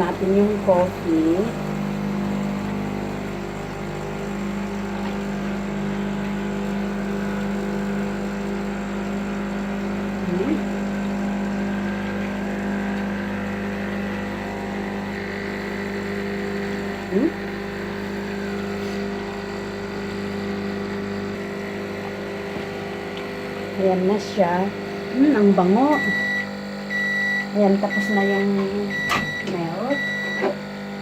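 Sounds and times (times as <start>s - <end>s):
espresso machine pump buzzing: 0.0s - 31.0s.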